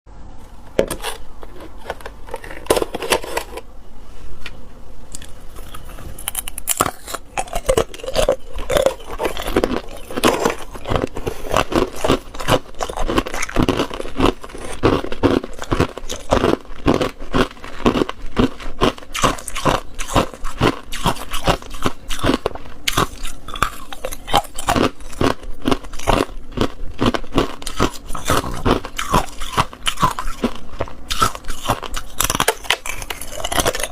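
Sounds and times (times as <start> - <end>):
person crunching ice cubes: 0.9 - 3.7, 5.1 - 33.9.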